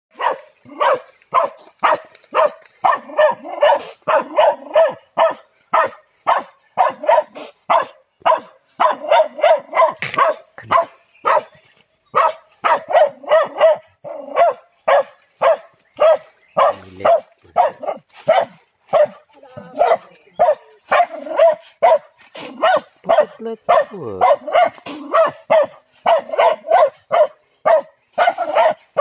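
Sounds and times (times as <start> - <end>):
dog barking: 0.1 - 29.0.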